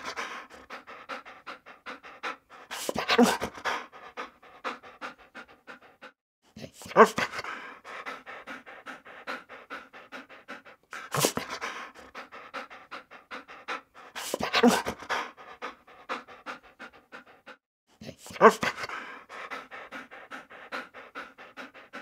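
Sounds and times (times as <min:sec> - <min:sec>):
dog panting rapidly: 0:00.0 - 0:22.0.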